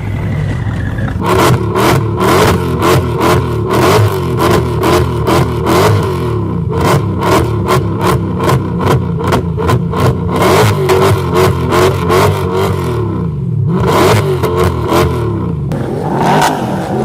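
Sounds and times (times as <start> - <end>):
engine revving in throttle blips: 0.0 - 17.0
engine whine: 0.0 - 17.0.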